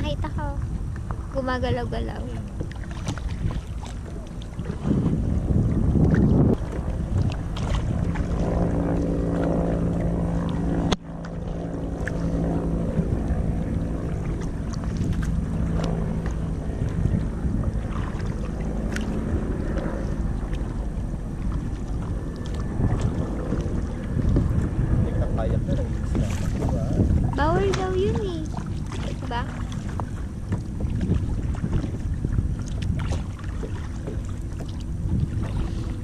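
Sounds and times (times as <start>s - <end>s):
kayak paddling through water: 0.0s - 36.0s
steady low hum: 0.0s - 36.0s
wind buffeting microphone: 0.0s - 36.0s
small splashes: 2.0s - 5.3s, 6.0s - 24.6s, 25.9s - 36.0s.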